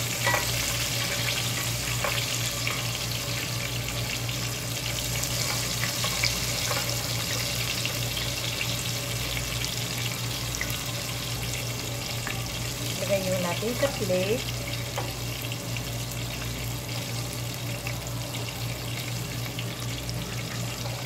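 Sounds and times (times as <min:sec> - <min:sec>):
shrimp sizzling in hot oil: 0:00.0 - 0:21.0.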